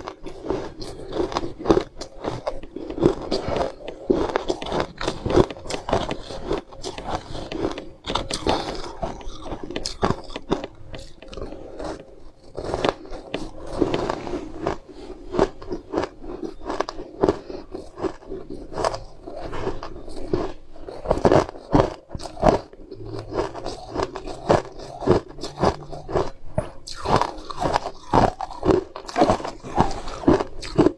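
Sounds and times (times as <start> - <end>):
crunching and chewing food: 0.0 - 30.9.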